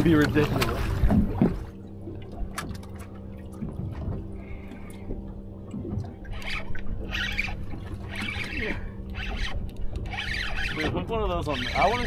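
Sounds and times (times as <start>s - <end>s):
steady low hum: 0.0s - 12.0s
water splashing against boat hull: 0.0s - 12.0s.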